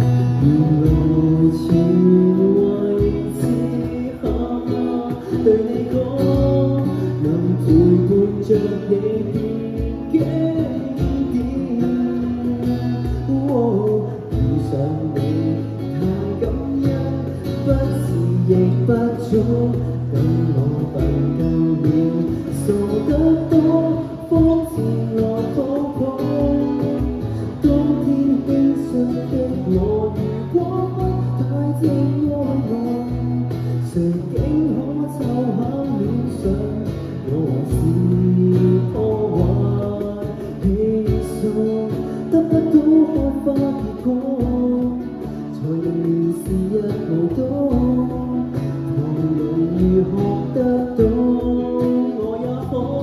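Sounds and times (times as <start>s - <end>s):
acoustic guitar strumming: 0.0s - 53.0s
cajon beats: 0.0s - 53.0s.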